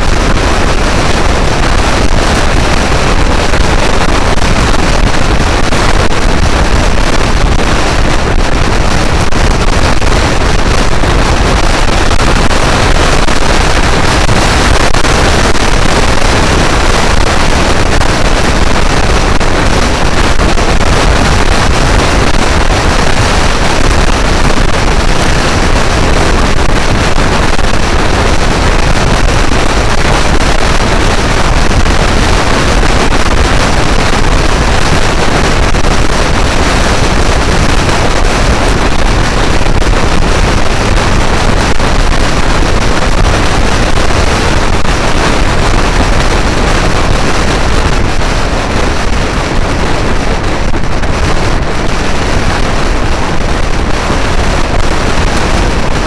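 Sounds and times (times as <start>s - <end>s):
road noise: 0.0s - 55.8s.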